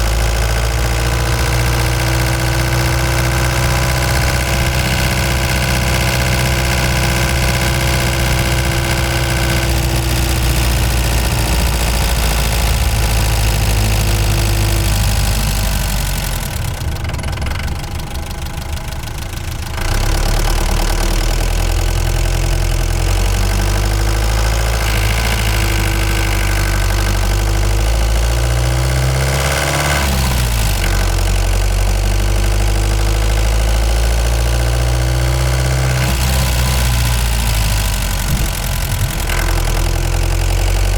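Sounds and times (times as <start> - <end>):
van engine running: 0.0 - 40.9.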